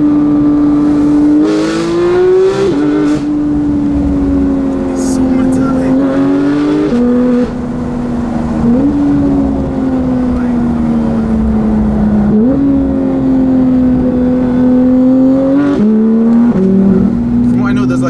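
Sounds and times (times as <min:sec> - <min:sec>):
sports car engine shifting gears: 0:00.0 - 0:18.0.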